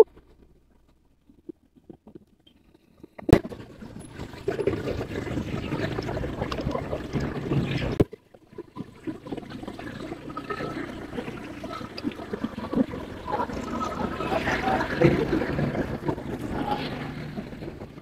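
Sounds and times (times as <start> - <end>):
road and traffic noise: 0.0 - 18.0.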